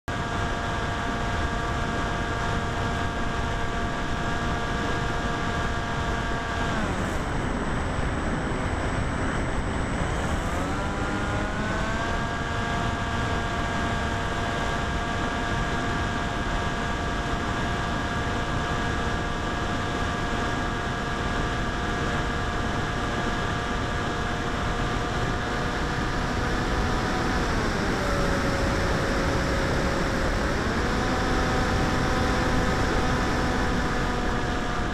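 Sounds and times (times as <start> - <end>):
electric motor propeller whine: 0.1 - 34.9.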